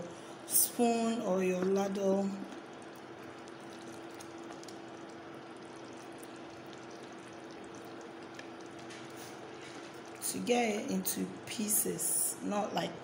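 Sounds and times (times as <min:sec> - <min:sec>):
sauce simmering and bubbling: 0:00.1 - 0:11.5.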